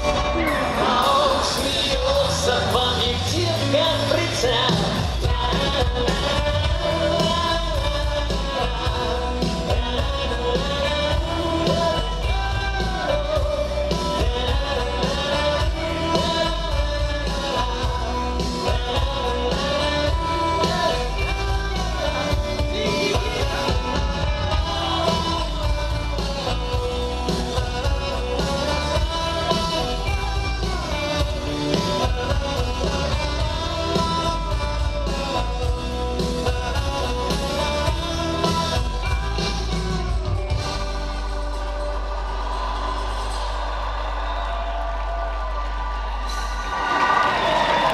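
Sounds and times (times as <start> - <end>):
live rock band playing: 0.0 - 44.6.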